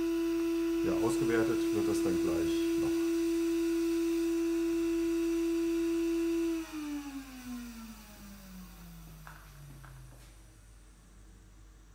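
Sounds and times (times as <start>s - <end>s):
electric motor whine: 0.0s - 10.4s.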